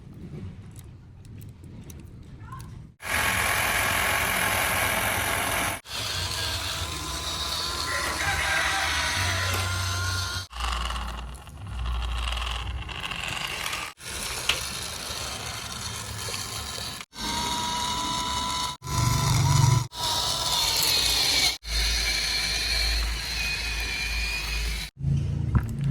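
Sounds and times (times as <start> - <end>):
small electric toy motors whining: 3.0 - 25.0.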